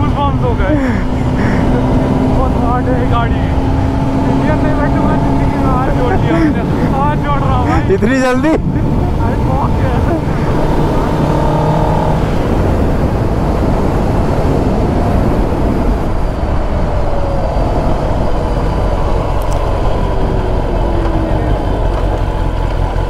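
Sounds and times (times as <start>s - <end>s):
motorcycle engine slowing: 0.0s - 23.0s
wind rushing over microphone: 0.0s - 23.0s.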